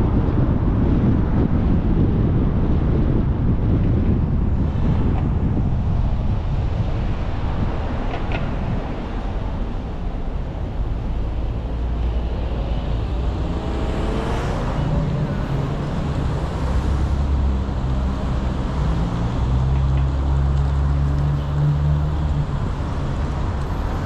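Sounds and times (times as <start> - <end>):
cars passing: 0.0 - 24.0
steady low traffic rumble: 0.0 - 24.0.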